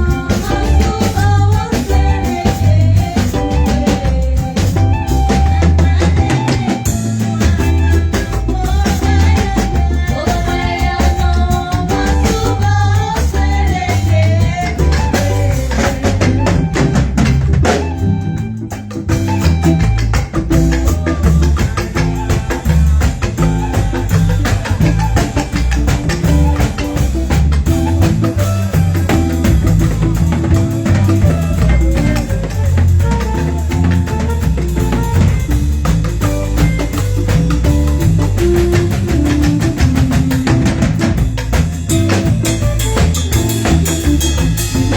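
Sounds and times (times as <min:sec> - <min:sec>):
drum kit and bass beat: 0:00.0 - 0:44.9.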